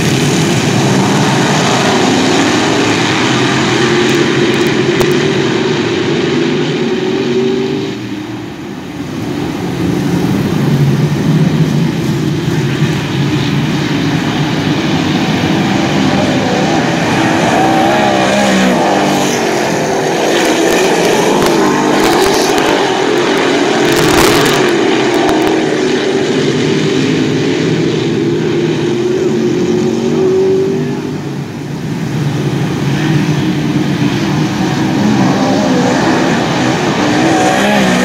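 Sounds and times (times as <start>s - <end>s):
race car engines racing: 0.0s - 38.0s.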